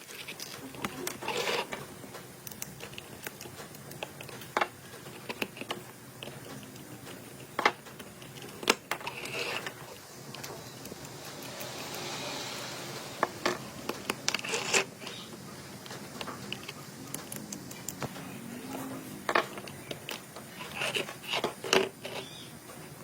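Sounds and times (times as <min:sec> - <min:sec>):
small clicks taps and scrapes: 0:00.0 - 0:12.0, 0:13.2 - 0:22.9.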